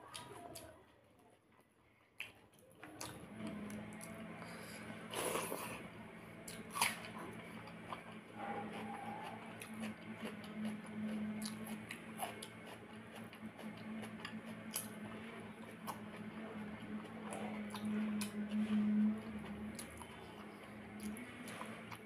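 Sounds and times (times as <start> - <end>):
eating by hand clicks and smacks: 1.5 - 4.2, 6.4 - 22.0
steady low hum: 3.0 - 22.0.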